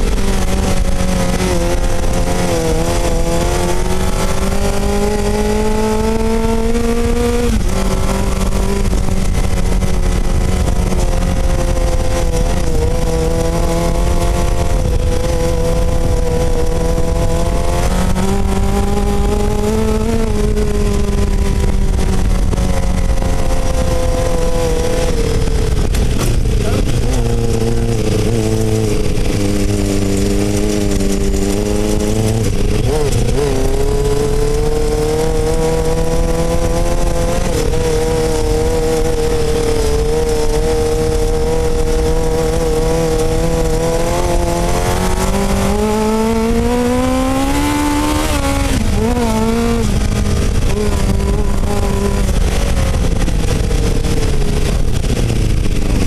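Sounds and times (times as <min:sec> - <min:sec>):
constant low rumble: 0:00.0 - 0:56.0
motorcycle engine revving: 0:00.0 - 0:56.0.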